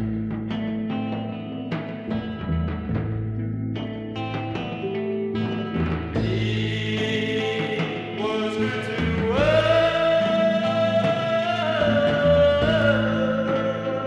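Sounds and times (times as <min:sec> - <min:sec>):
psychedelic rock band: 0:00.0 - 0:14.0.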